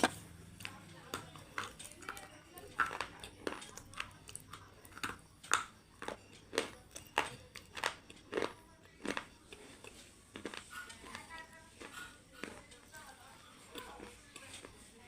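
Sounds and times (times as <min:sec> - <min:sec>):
chewing crunchy fries: 0:00.0 - 0:15.0.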